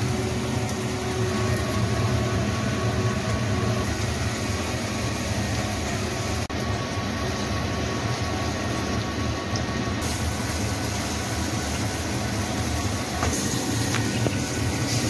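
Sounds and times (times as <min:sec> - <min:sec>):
tofu sizzling in oil: 0:00.0 - 0:15.0.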